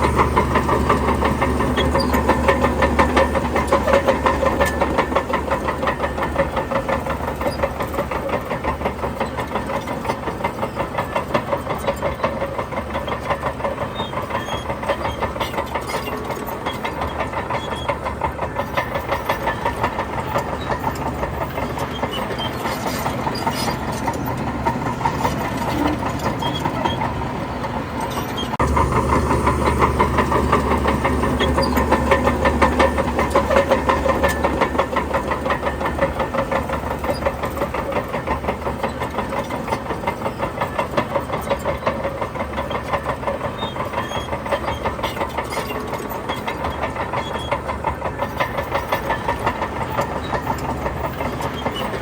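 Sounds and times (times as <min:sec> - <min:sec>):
heavy diesel engine knocking: 0:00.0 - 0:52.0.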